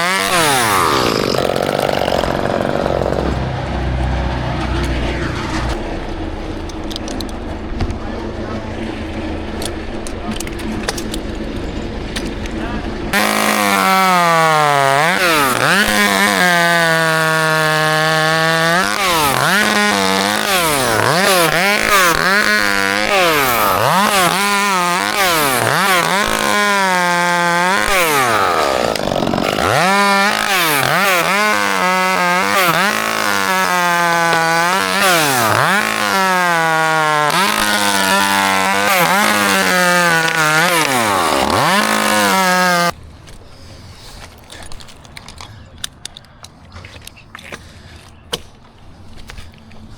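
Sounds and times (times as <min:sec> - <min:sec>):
chainsaw cutting: 0:00.0 - 0:43.0.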